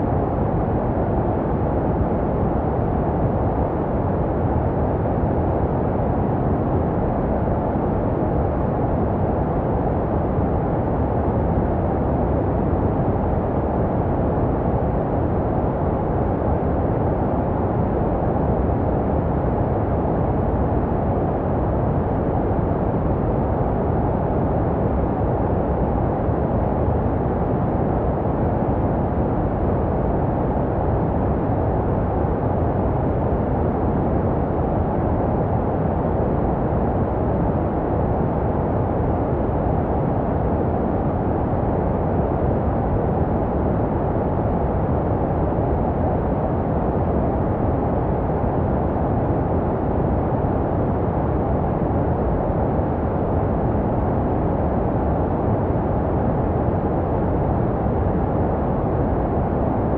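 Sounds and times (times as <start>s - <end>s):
muffled filtered white noise: 0.0s - 59.9s.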